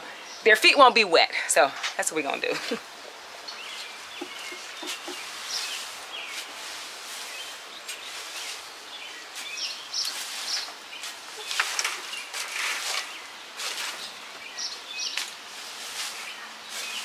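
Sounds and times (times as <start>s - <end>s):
steady background hiss: 0.0s - 17.0s
birds chirping: 1.6s - 17.0s.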